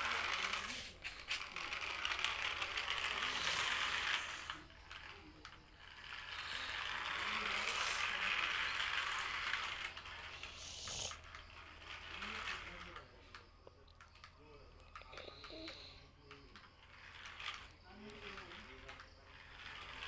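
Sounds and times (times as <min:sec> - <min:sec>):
toy electric motor whirring: 0:00.0 - 0:20.0.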